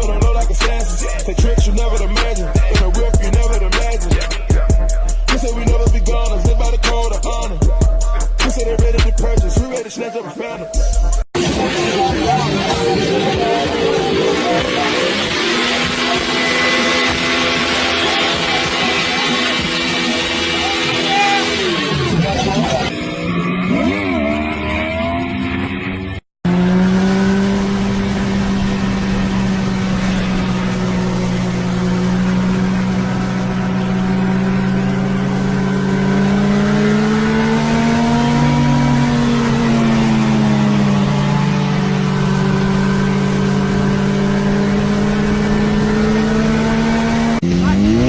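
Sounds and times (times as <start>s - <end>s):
motorcycle engine running: 0.0s - 9.8s, 11.0s - 48.0s.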